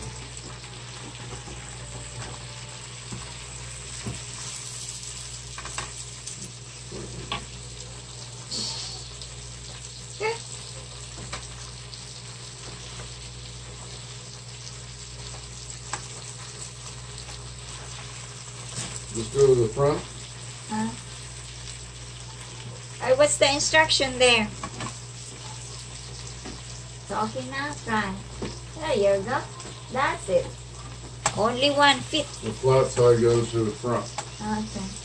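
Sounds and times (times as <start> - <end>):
spinach sizzling in a skillet: 0.0 - 35.0.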